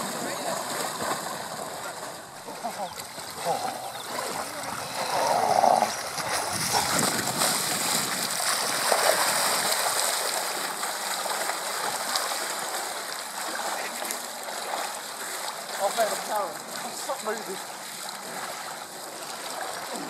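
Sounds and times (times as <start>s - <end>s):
swimmers splashing water: 0.0s - 20.0s.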